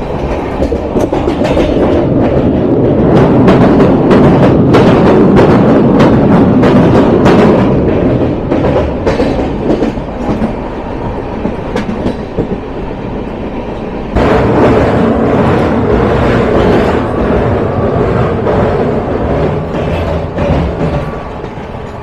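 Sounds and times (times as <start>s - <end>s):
train running on track: 0.0s - 22.0s.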